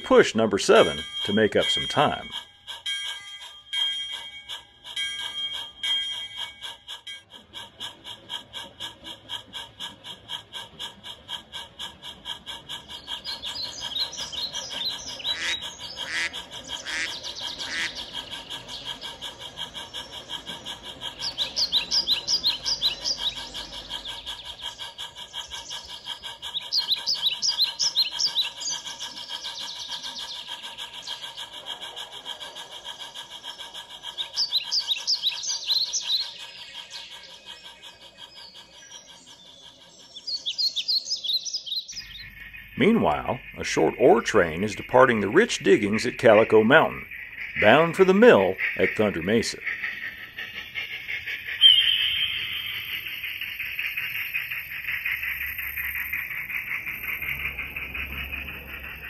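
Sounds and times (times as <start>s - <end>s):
birds chirping: 0.0s - 59.0s
model steam locomotive chuffing: 0.0s - 59.0s.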